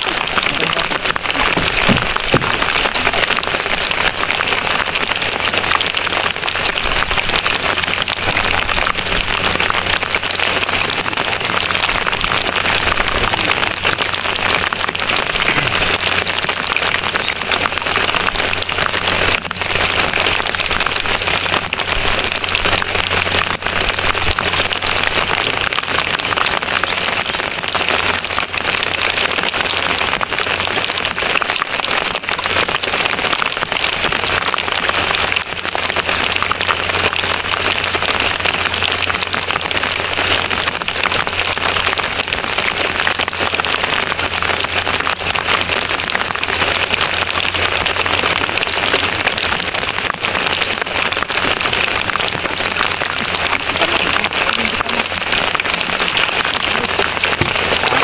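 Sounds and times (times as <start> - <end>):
steady hiss of water: 0.0 - 58.0.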